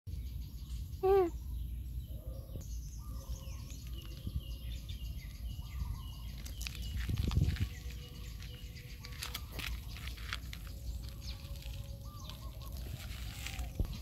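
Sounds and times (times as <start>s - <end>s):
faint bird chirps: 0.1s - 14.0s.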